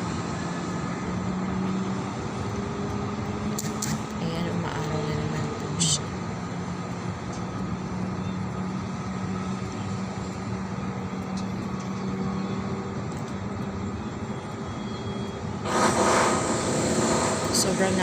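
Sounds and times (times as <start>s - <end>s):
urban drone: 0.0s - 18.0s.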